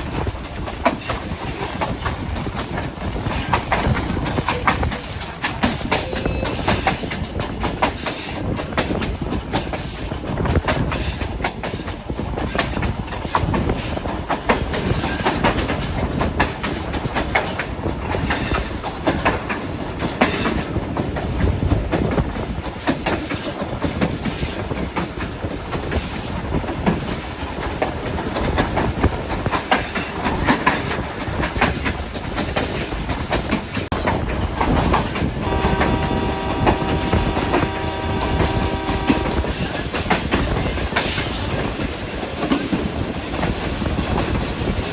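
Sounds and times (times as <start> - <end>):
train wheels clattering over rails: 0.0 - 44.9.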